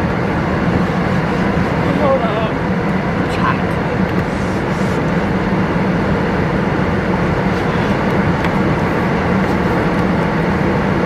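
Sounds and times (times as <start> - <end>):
loud mechanical drone: 0.0 - 11.0.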